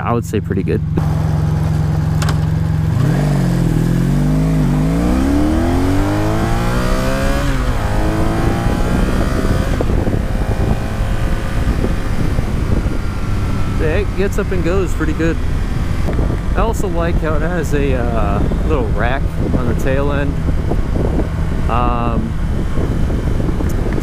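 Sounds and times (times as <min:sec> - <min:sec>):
motorcycle engine accelerating: 0:00.0 - 0:24.0
wind noise: 0:00.8 - 0:24.0.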